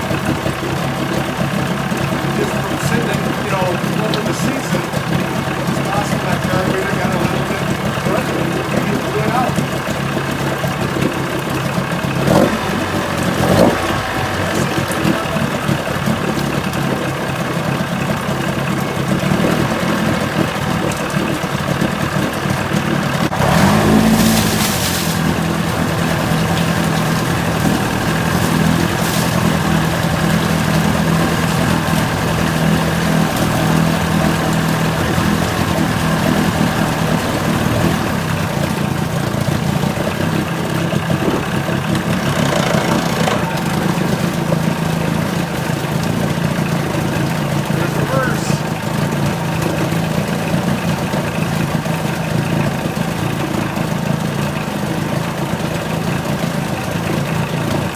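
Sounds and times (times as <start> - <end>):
outboard motor idling and revving: 0.0 - 57.9.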